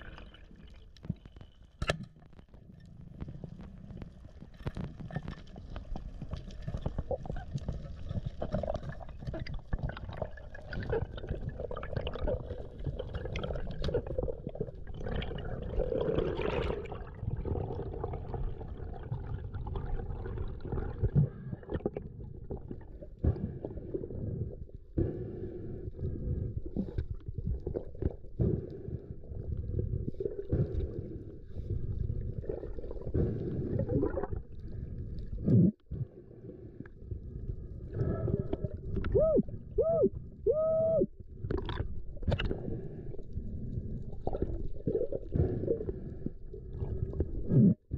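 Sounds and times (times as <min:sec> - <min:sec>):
muffled underwater rumbling: 0:02.9 - 0:47.9.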